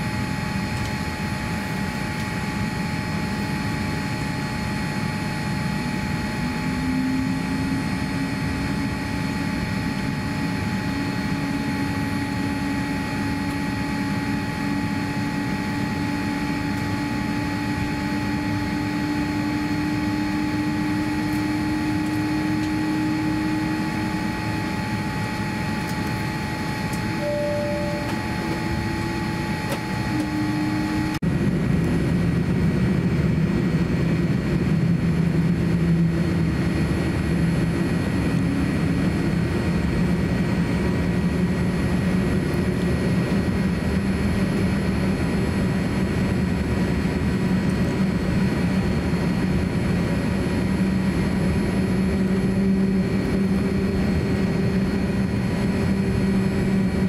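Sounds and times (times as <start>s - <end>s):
airliner cabin hum: 0.0s - 57.0s
jet engines droning: 0.0s - 57.0s.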